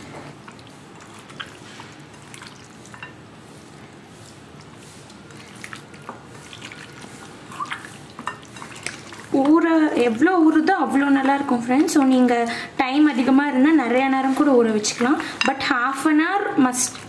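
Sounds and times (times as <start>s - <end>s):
hand mixing meat in marinade: 0.0s - 17.0s.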